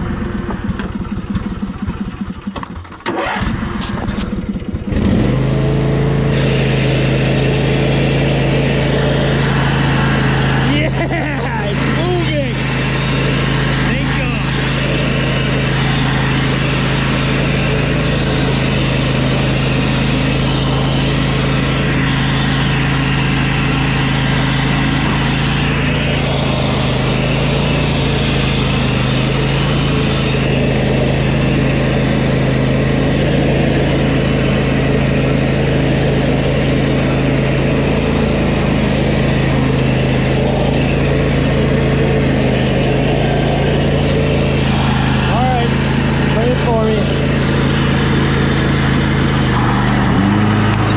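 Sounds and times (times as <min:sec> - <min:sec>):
riding lawn mower engine running: 0:00.0 - 0:50.9.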